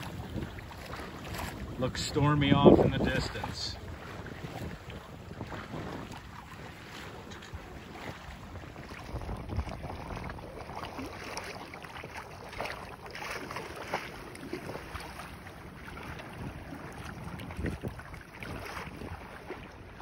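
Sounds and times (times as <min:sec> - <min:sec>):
water splashing against hull: 0:00.0 - 0:20.0
wind rumble on microphone: 0:00.0 - 0:20.0.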